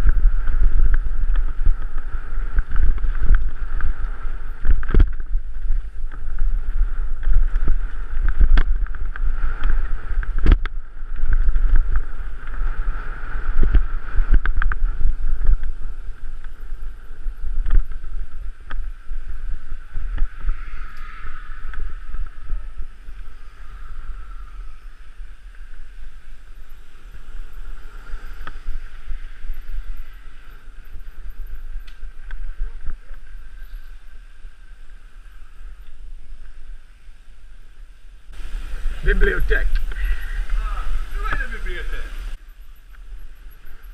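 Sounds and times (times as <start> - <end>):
bike tyres on dirt trail: 0.0 - 43.9
wind buffeting microphone: 0.0 - 43.9.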